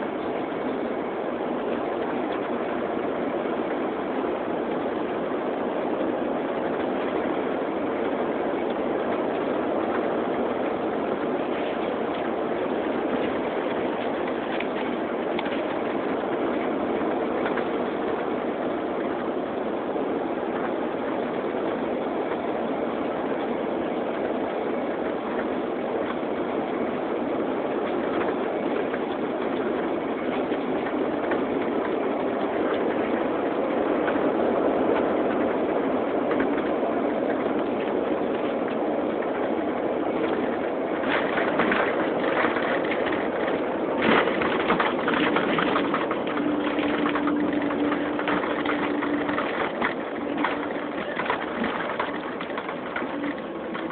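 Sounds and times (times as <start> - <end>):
jet airliner cabin noise: 0.0 - 53.9.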